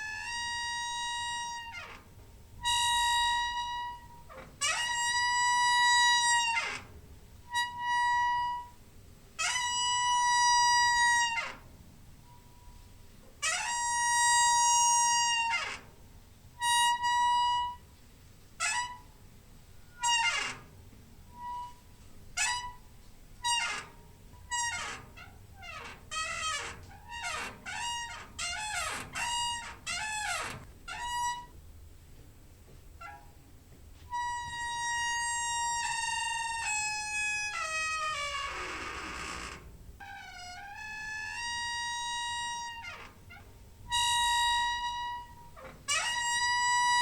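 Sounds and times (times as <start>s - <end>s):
squeaking door hinge: 0.0s - 8.8s, 9.4s - 12.8s, 13.4s - 16.0s, 16.6s - 17.9s, 18.6s - 31.6s, 33.0s - 33.5s, 34.1s - 47.0s.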